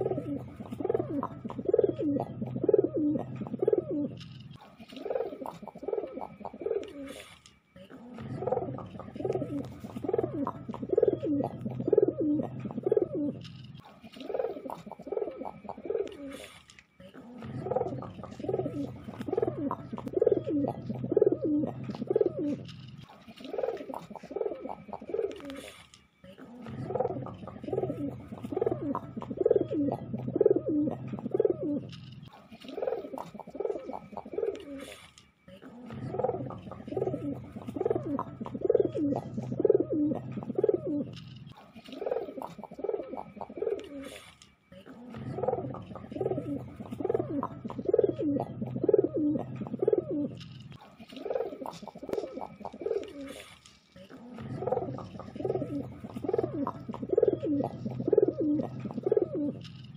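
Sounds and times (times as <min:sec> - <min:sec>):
pigeon cooing: 0:00.0 - 0:59.9.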